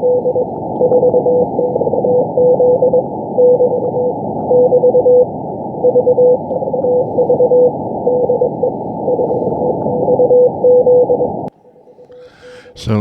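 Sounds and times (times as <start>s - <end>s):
radio hiss: 0.0s - 11.5s
morse code tone: 0.0s - 12.3s.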